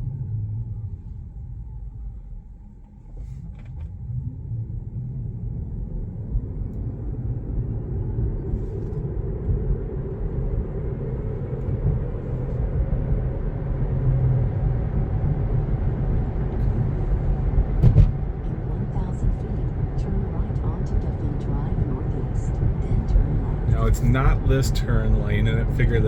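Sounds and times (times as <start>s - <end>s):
road and tyre noise in car: 0.0s - 26.0s.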